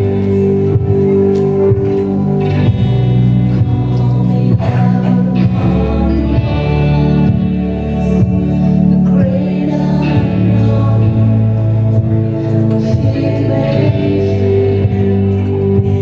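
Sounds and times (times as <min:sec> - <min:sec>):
congregation singing: 0:00.0 - 0:16.0
worship band playing: 0:00.0 - 0:16.0.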